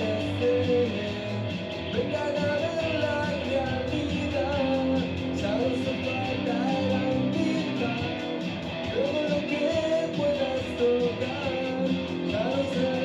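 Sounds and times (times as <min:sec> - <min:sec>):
live rock band playing: 0:00.0 - 0:13.0
wavering guitar line: 0:00.0 - 0:13.0.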